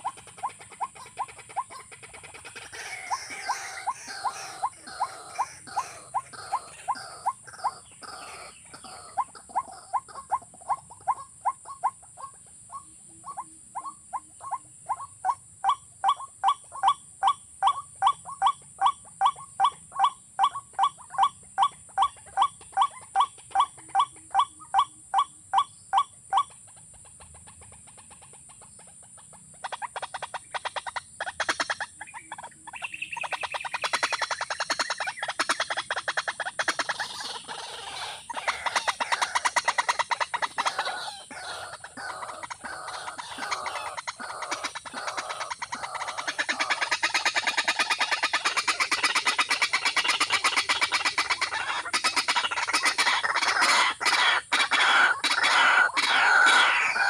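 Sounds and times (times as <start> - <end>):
bird calling: 0.0 - 57.0.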